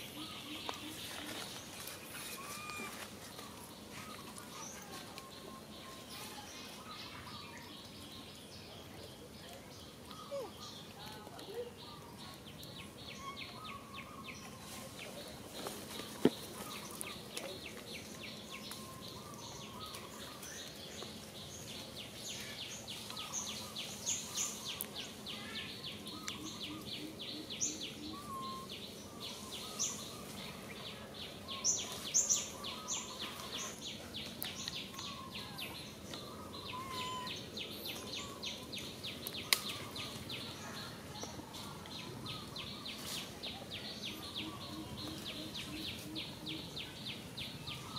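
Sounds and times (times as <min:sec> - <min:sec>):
bird chirps: 0:00.0 - 0:15.2, 0:16.0 - 0:47.9.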